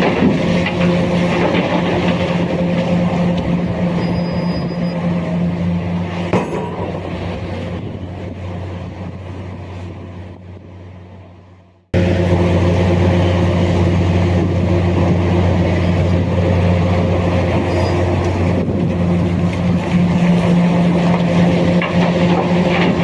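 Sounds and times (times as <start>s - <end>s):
large diesel engine running: 0.0s - 23.0s.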